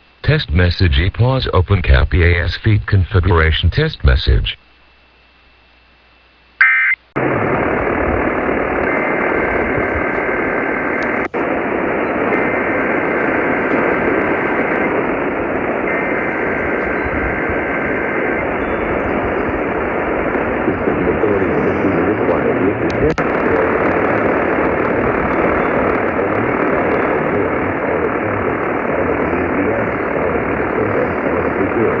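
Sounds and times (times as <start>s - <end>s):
faint two-tone data bursts: 0.0s - 32.0s
radio static hiss: 0.0s - 32.0s.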